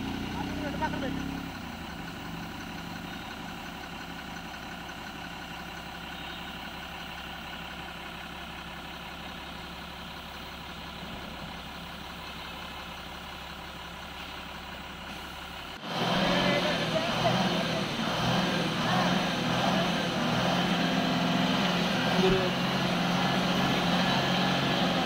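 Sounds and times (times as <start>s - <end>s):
lorry diesel engine running: 0.0s - 25.0s.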